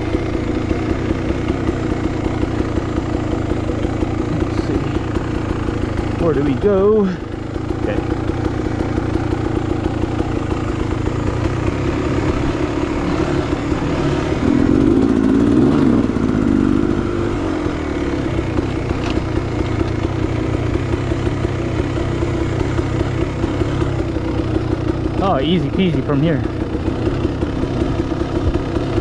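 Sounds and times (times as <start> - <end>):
dirt bike engine: 0.0 - 29.0.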